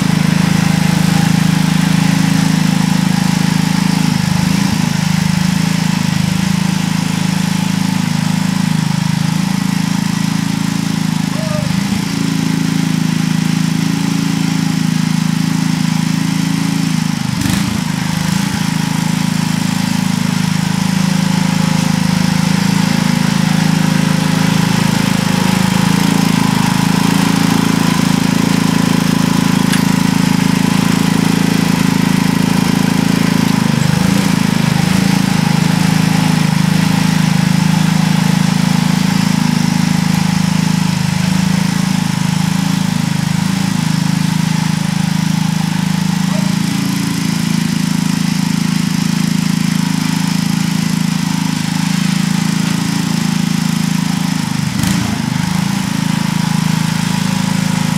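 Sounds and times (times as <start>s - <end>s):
garden tractor engine running: 0.0s - 57.9s.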